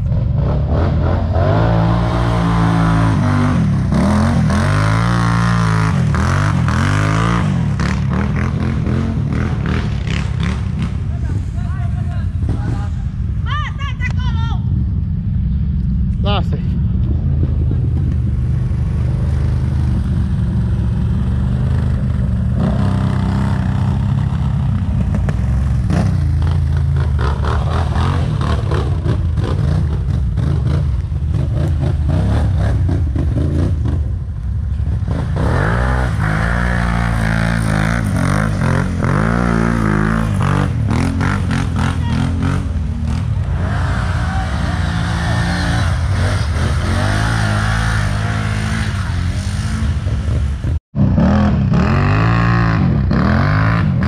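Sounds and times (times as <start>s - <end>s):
atv engine running hard: 0.0s - 13.5s, 14.6s - 54.0s.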